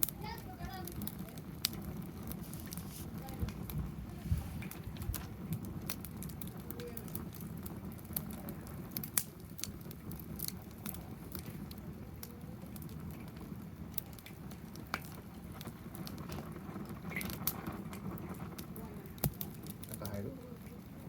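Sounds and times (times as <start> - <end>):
wood fire crackling: 0.0 - 21.0
low steady rush: 0.1 - 19.8.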